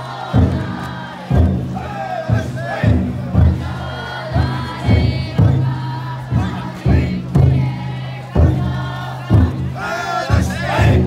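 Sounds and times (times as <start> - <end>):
people chanting in unison: 0.0 - 11.0
taiko drum booming: 0.1 - 11.0.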